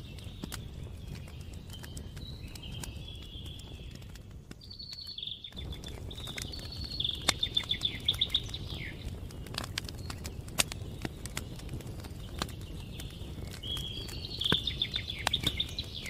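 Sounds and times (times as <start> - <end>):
campfire crackling: 0.0 - 16.0
songbird singing: 0.0 - 16.0.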